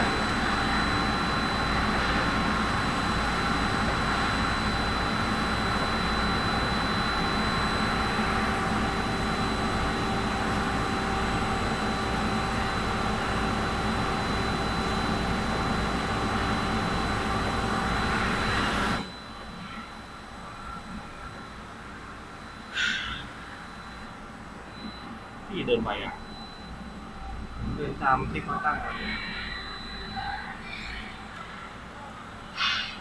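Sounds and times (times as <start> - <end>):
thin high whine: 0.0 - 31.8
electric motor and fan whirring: 0.0 - 31.9.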